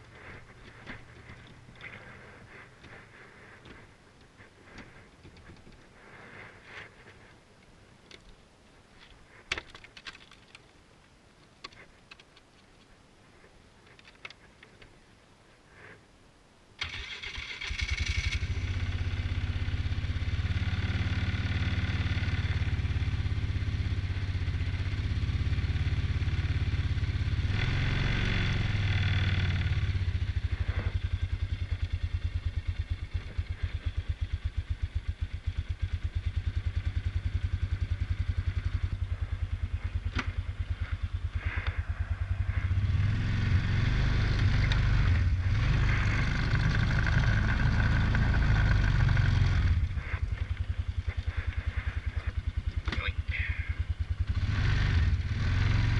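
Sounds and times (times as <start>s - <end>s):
atv engine starting and running: 0.0s - 7.2s, 16.8s - 55.9s.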